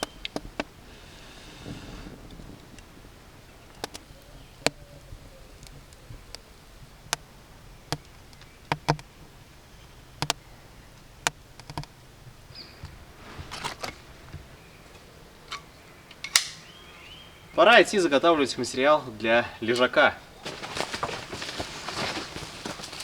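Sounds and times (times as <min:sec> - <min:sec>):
rustling: 0:00.0 - 0:23.0
wood fire crackling: 0:00.0 - 0:23.0.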